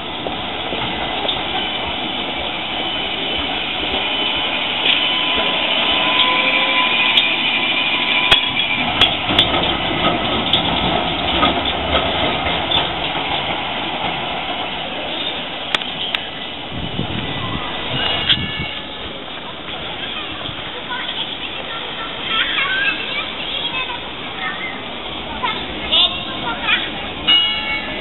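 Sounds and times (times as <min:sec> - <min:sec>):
tram rumbling past: 0:00.0 - 0:28.0
wheels clicking on rails: 0:00.0 - 0:28.0.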